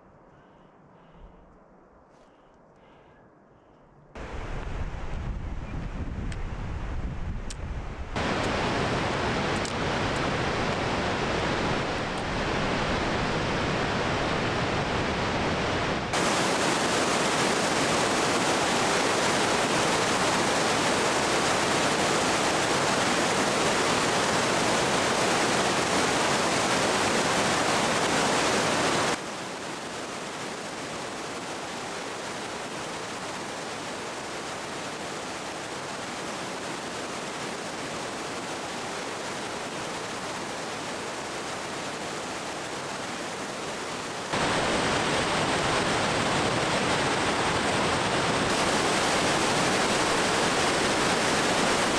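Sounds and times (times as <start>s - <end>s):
creek rushing over boulders: 8.1s - 51.9s.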